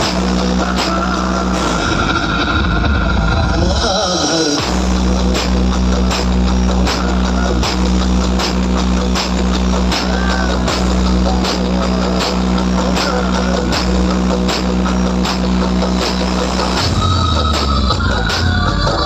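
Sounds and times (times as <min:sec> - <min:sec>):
loud bass-heavy dance music: 0:00.0 - 0:19.0.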